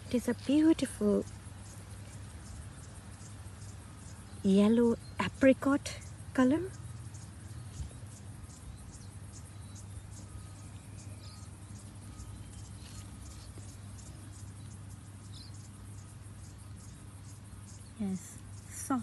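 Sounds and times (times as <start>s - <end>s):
insects chirping: 0.0s - 19.0s
steady low hum: 0.0s - 19.0s.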